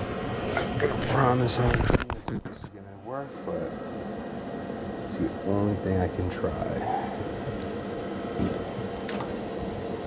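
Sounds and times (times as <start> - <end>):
furnace equipment humming: 0.0 - 10.0.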